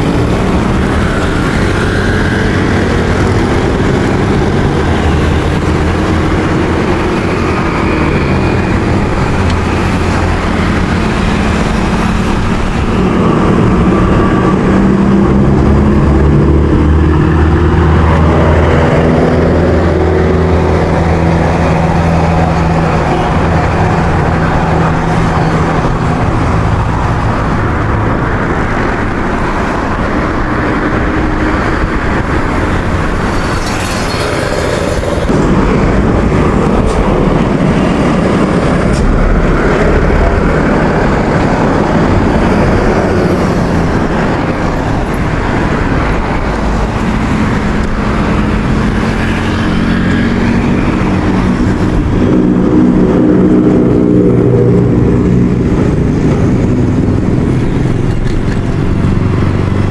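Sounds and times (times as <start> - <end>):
moving air rushing: 0.0 - 59.9
traffic rushing: 0.0 - 59.9
vehicle engine humming: 0.0 - 59.9.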